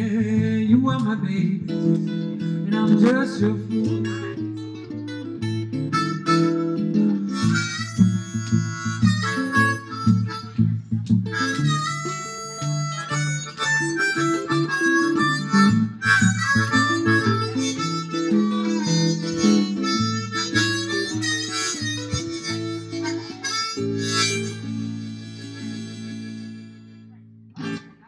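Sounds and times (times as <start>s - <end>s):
guitar accompaniment: 0.0s - 28.0s
blues harmonica: 1.7s - 27.1s.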